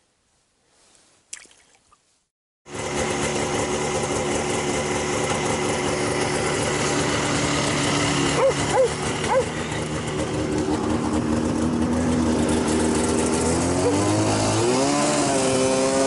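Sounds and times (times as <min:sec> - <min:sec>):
snowmobile engine running: 0:02.7 - 0:16.0.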